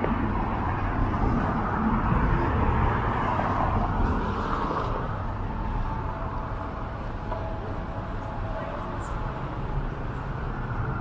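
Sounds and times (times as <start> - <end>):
street traffic rumbling: 0.0 - 11.0.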